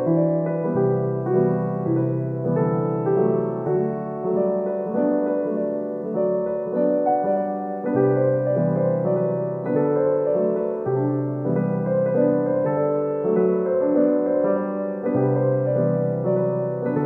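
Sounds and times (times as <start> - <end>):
gentle slow piano tune: 0.0 - 17.0.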